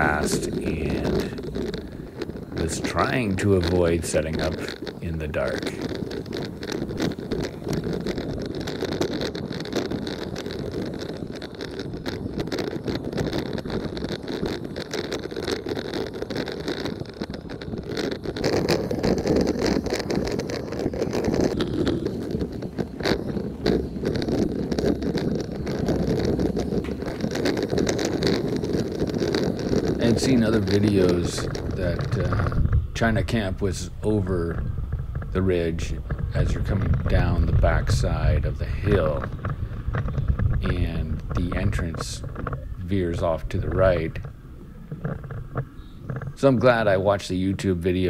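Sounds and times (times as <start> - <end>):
pickup engine rumble: 0.0 - 48.0
tyres on gravel: 0.0 - 48.0
wind buffeting microphone: 0.0 - 48.0.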